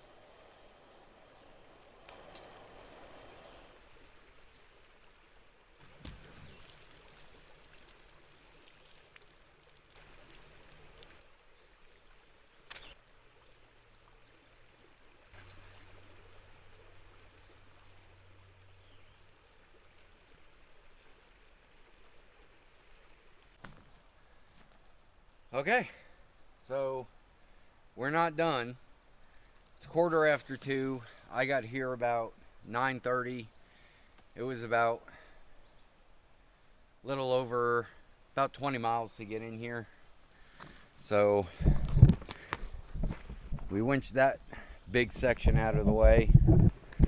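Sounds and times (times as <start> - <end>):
running stream water: 0.0 - 47.0.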